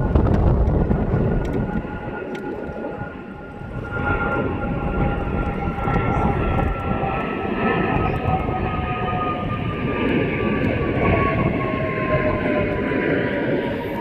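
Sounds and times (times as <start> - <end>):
jet engines whining: 0.0 - 14.0
wind rumble on microphone: 0.0 - 14.0.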